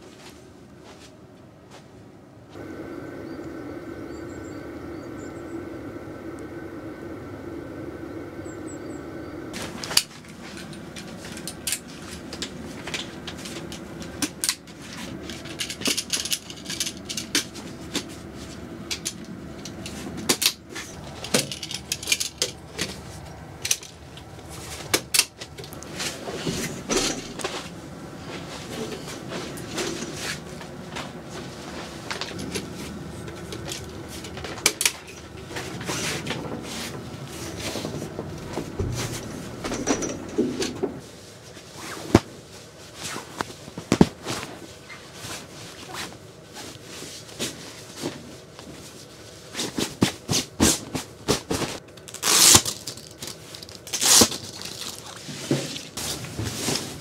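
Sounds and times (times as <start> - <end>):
low hum: 0.0 - 49.5.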